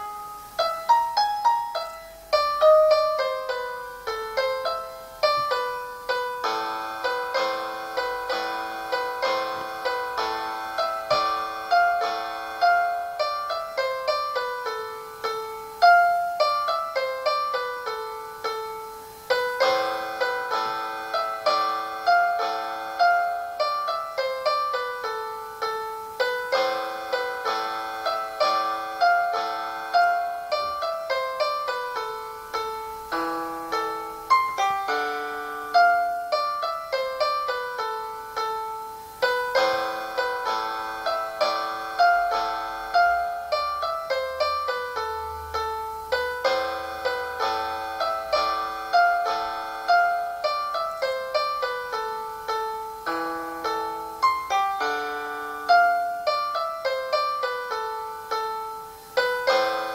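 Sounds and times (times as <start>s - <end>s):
thin piano melody: 0.0s - 59.9s.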